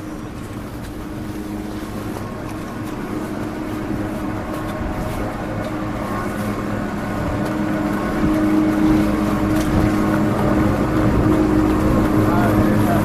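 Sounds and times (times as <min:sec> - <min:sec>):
chairlift machinery humming: 0:00.0 - 0:13.0.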